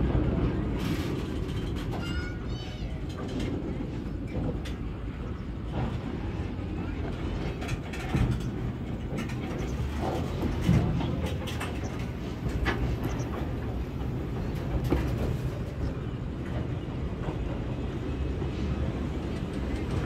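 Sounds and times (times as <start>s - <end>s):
train wheels rumbling on rails: 0.0s - 20.0s
clanks and clicks: 0.8s - 20.0s.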